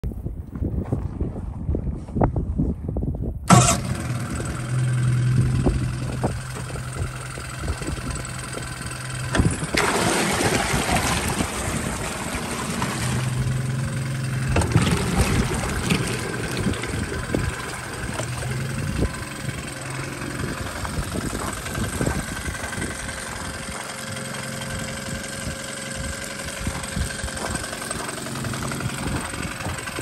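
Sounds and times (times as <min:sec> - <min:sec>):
exhaust churning water: 0:03.5 - 0:30.0
outboard engine running: 0:03.5 - 0:30.0.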